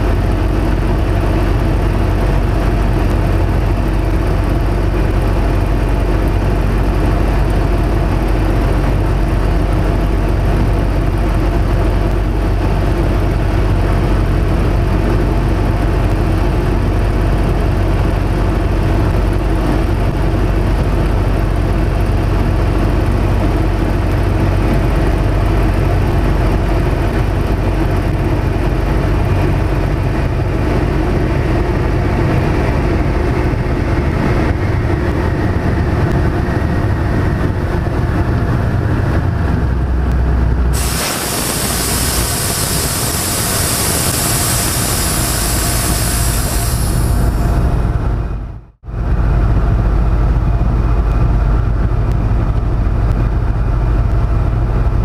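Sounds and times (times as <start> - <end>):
radial engine and propeller: 0.0 - 55.0.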